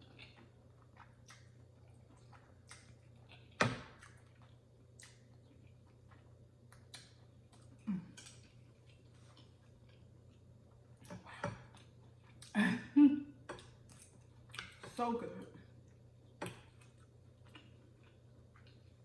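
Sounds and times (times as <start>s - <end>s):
chewing with mouth smacks: 0.0s - 12.6s, 13.4s - 15.0s, 15.7s - 19.0s
faint low hum: 0.0s - 19.0s.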